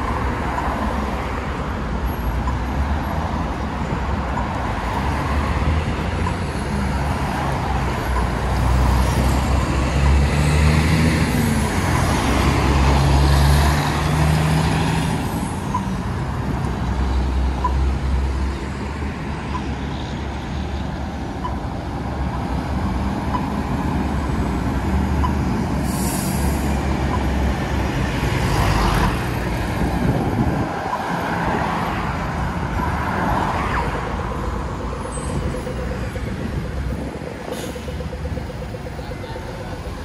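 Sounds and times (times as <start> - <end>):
vehicle engines rumbling: 0.0 - 40.0.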